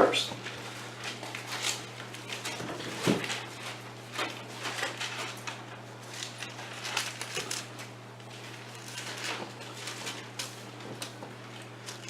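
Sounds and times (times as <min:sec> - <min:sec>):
book pages rustling: 0:00.5 - 0:12.0.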